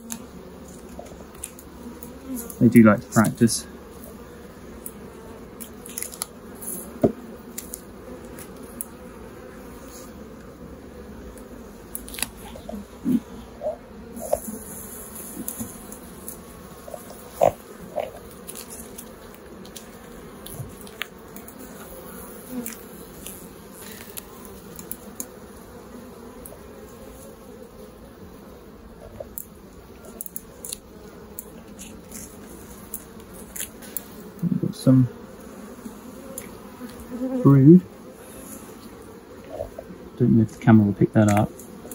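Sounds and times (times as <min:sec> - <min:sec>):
honeybees buzzing: 0:00.0 - 0:41.9.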